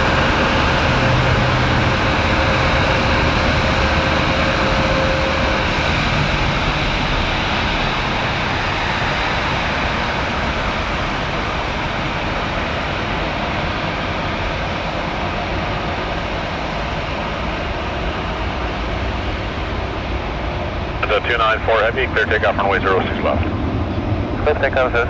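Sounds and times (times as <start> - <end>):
jet engines at taxi power: 0.0 - 25.0.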